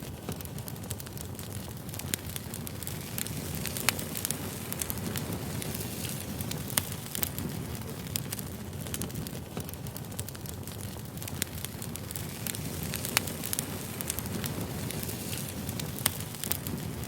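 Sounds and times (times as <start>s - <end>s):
crackles and pops of fire: 0.0s - 17.0s
firewood burning: 0.0s - 17.0s.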